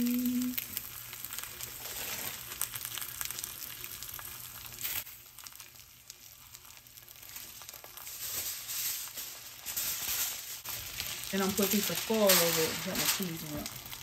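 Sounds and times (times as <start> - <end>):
patties sizzling in oil: 0.0 - 14.0.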